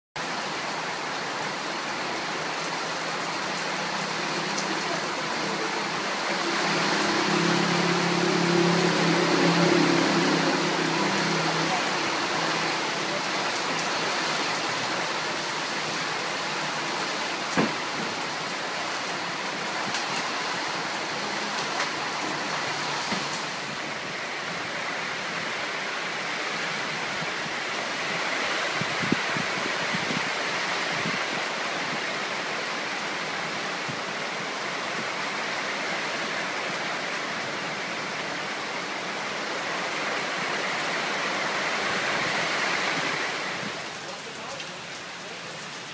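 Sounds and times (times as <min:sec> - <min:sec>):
steady rain hiss: 0:00.2 - 0:45.9.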